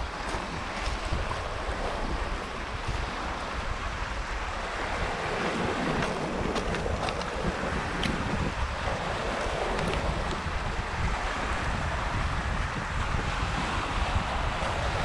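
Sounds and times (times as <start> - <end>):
small waves on pebbly shore: 0.0 - 15.0
wind noise on microphone: 0.0 - 15.0.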